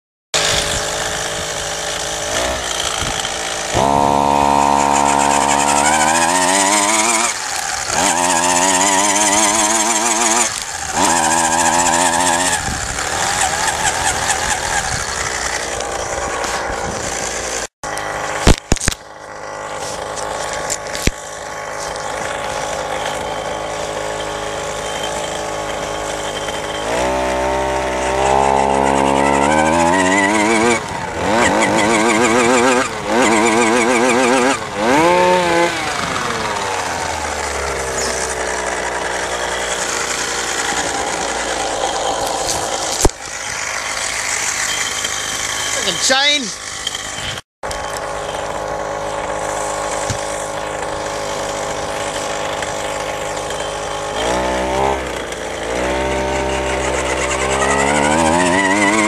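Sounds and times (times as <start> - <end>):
small two-stroke engine revving: 0.4 - 59.0.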